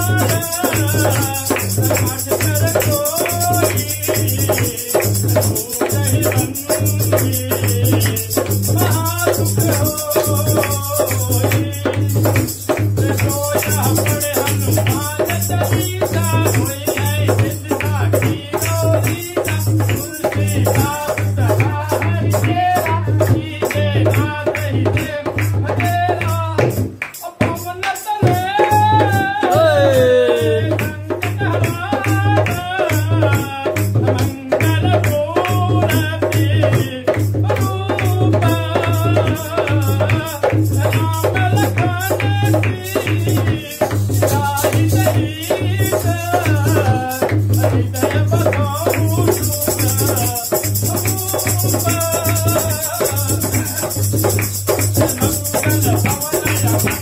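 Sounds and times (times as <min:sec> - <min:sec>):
dholak drumming: 0:00.0 - 0:57.0
man singing: 0:00.0 - 0:57.0.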